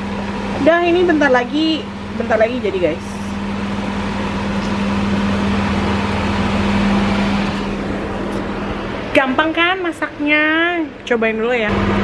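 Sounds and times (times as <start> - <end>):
range hood fan hum: 0.0 - 12.0.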